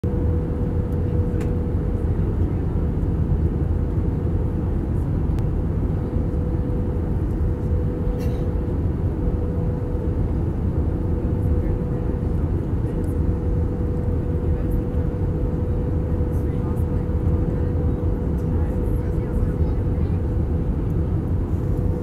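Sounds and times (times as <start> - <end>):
aircraft cabin engine rumble: 0.0 - 22.0
steady hum: 0.0 - 22.0.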